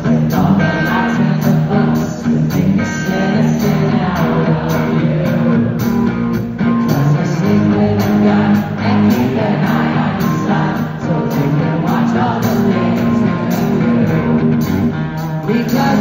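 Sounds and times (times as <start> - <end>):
live rock band: 0.0 - 16.0.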